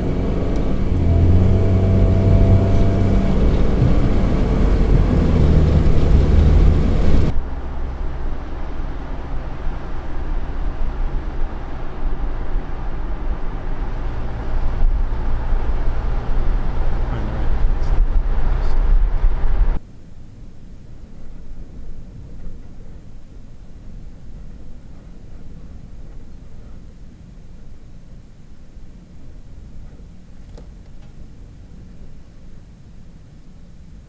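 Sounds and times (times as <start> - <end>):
car engine hum: 0.0 - 34.0
road noise: 0.0 - 34.0.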